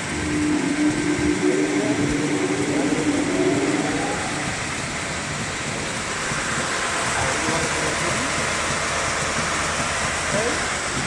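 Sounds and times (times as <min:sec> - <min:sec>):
sanding machine humming: 0:00.0 - 0:11.0.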